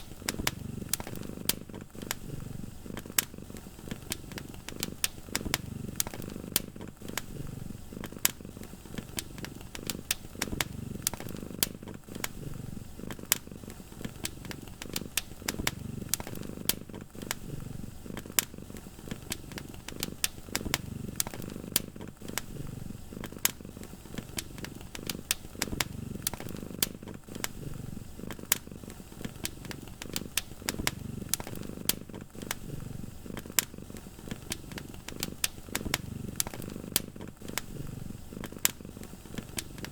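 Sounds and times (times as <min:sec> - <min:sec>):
cat purring: 0:00.0 - 0:39.9
wood fire crackling and popping: 0:00.0 - 0:39.9.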